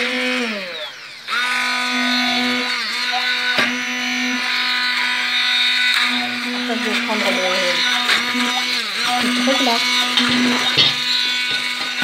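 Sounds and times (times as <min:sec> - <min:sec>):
stick blender motor running: 0:00.0 - 0:12.0.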